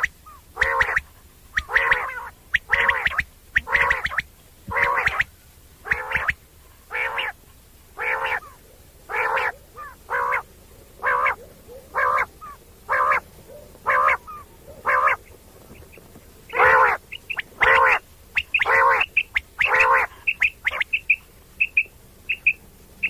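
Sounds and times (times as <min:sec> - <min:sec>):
animal short pitched calls: 0:00.0 - 0:07.4, 0:08.0 - 0:15.2, 0:16.5 - 0:21.0.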